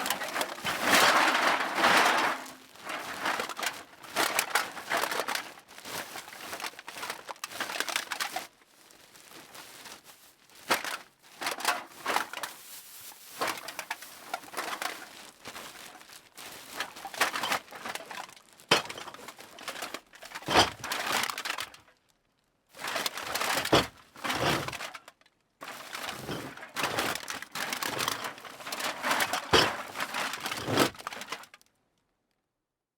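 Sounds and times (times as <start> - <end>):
bag rustling and crinkling: 0.0 - 21.9, 22.8 - 31.6.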